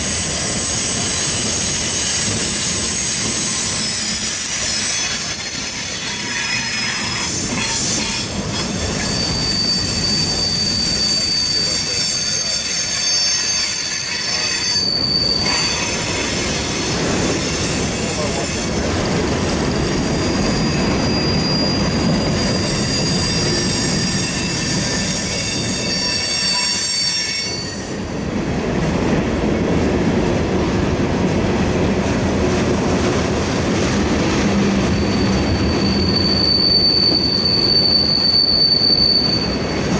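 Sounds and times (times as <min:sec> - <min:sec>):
train wheels squealing: 0:00.0 - 0:28.5, 0:34.2 - 0:39.9
train cars rumbling: 0:00.0 - 0:39.9.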